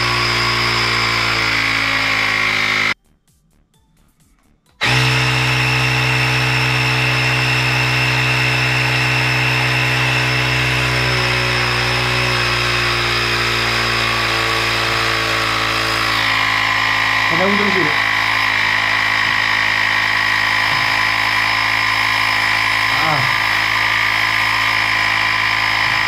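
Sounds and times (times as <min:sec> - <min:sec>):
tyre inflator compressor buzzing: 0:00.0 - 0:03.0, 0:04.8 - 0:26.0.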